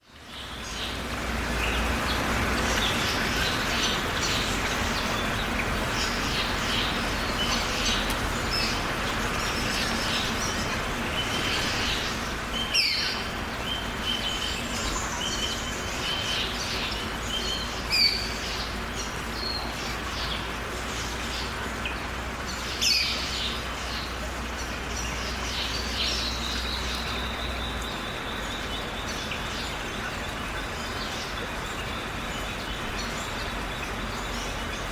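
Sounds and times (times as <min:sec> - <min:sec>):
rain hiss: 0:00.0 - 0:34.9
birds chirping and calling: 0:00.2 - 0:34.9.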